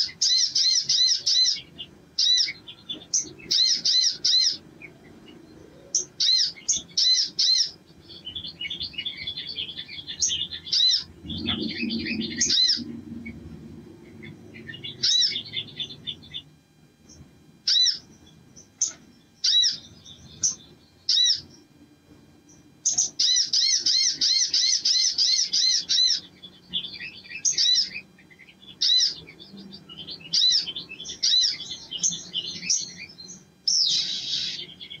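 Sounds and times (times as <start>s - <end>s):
bird twittering trills: 0.0s - 21.8s, 22.4s - 35.0s.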